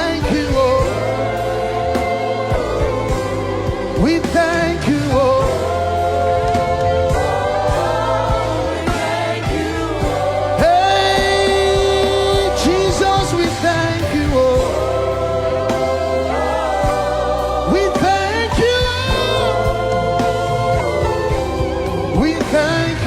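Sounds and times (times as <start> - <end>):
band with sustained bass: 0.0 - 23.0.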